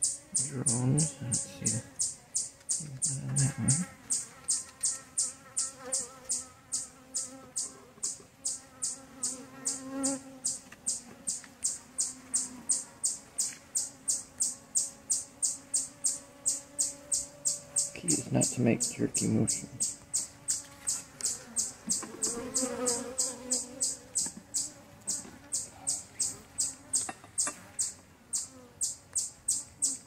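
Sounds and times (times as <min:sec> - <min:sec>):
honeybees humming: 0:00.0 - 0:30.0.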